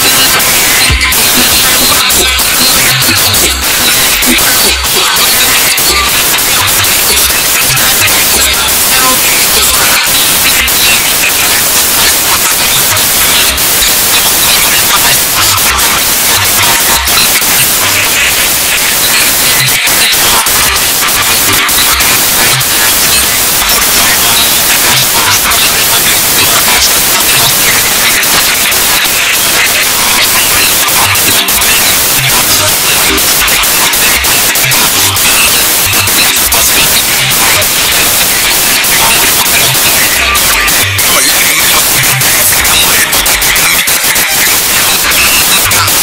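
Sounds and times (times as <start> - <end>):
distorted song hiss: 0.0 - 46.0.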